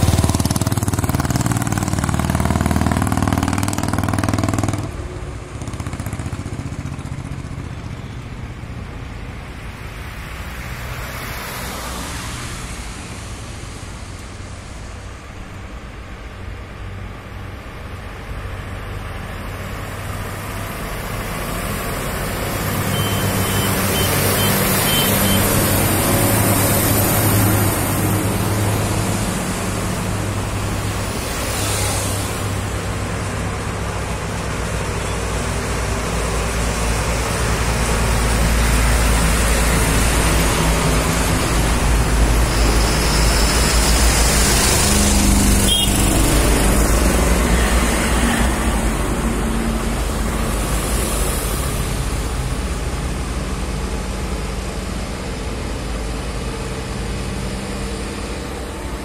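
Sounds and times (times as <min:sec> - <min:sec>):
road and wind noise: 0:00.0 - 0:59.0
vehicle engine drone: 0:00.0 - 0:59.0
vehicles passing by: 0:00.0 - 0:59.0.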